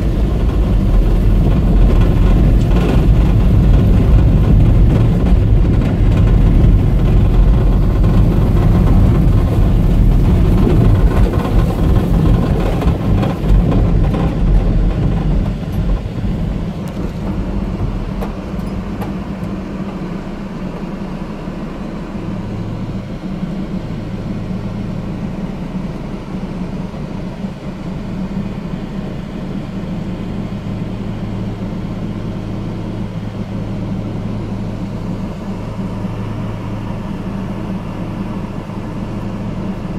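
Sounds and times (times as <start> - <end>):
engine idling with low hum: 0.0 - 39.9
off-road vehicle driving on rough track: 0.0 - 39.9.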